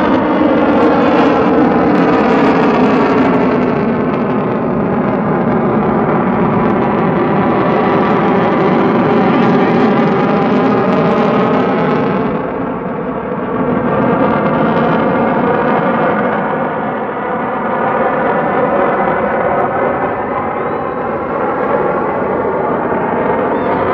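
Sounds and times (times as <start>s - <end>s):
aircraft engine drone: 0.0s - 23.9s.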